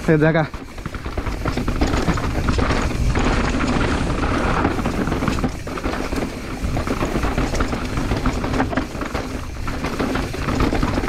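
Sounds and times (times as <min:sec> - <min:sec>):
bike rattles and knocks: 0:00.0 - 0:11.0
bike tyres rumbling over stones: 0:00.0 - 0:11.0
wind on microphone: 0:00.6 - 0:11.0.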